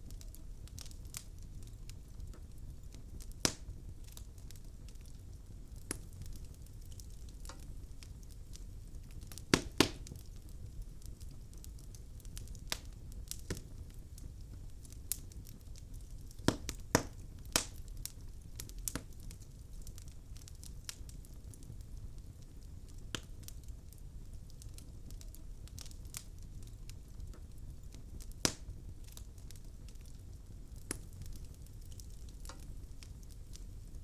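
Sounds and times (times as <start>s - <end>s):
sharp fire pops: 0.0s - 5.1s, 5.8s - 21.7s, 24.6s - 34.0s
logs crackling in fireplace: 0.0s - 34.0s
low steady fire rumble: 0.0s - 34.0s.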